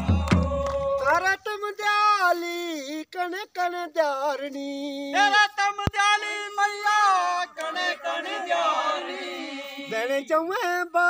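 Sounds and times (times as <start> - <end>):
person singing unaccompanied: 0.0 - 11.0.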